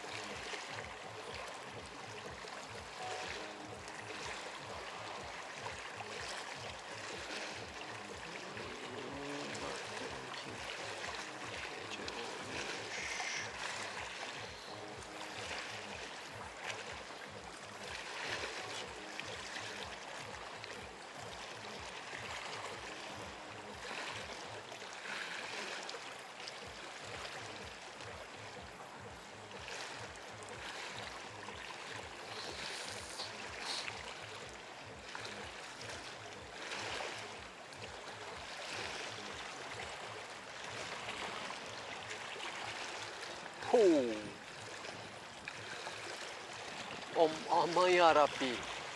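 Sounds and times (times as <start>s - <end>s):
sea waves washing ashore: 0.0s - 48.9s.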